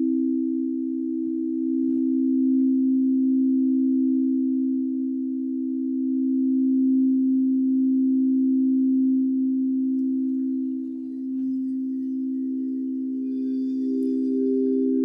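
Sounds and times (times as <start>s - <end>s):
singing bowls humming: 0.0s - 7.4s, 9.8s - 15.0s
higher bowl tone: 0.0s - 15.0s.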